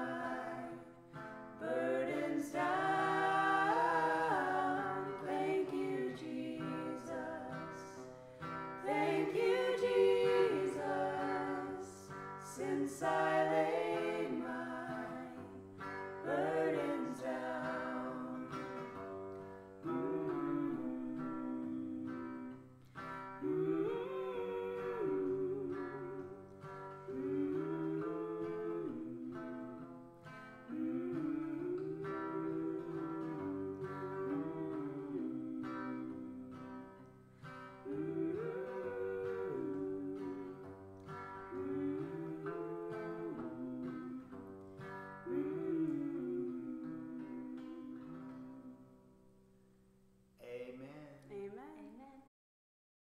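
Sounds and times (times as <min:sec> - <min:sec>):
women singing: 0:00.0 - 0:22.6, 0:23.4 - 0:37.0, 0:37.7 - 0:48.9
acoustic guitar: 0:00.0 - 0:52.3.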